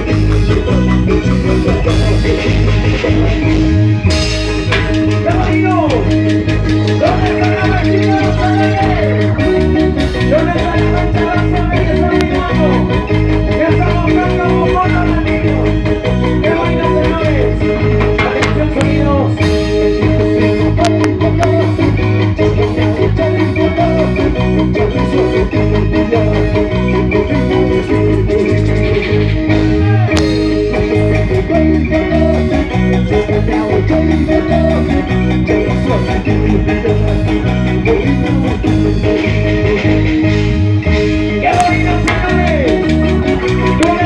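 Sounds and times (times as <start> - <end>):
drums and timbales: 0.0 - 44.0
electric guitar: 0.0 - 44.0
live band playing dance music: 0.0 - 44.0.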